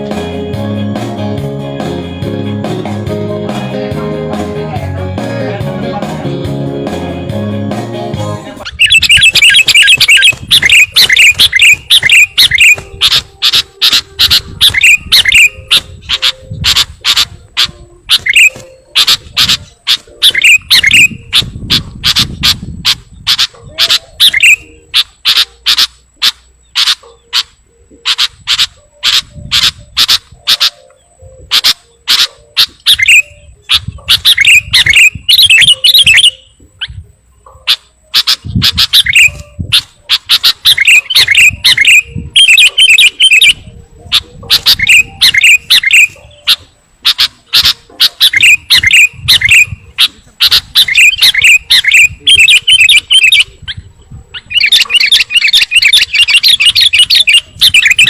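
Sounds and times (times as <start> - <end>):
bird sharp rapid chirps and warbling: 8.6 - 58.0.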